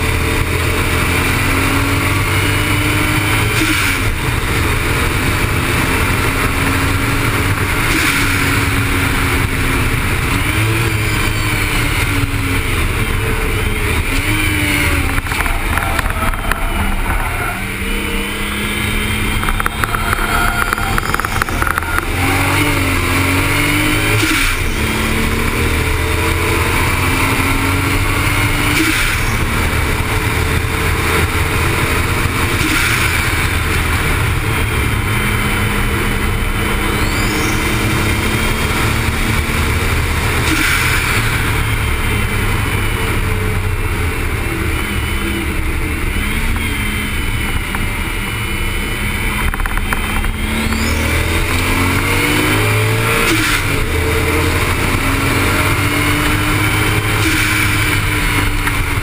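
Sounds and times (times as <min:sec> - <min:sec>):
car engine accelerating hard: 0:00.0 - 0:59.0
wind and tyre noise: 0:00.0 - 0:59.0.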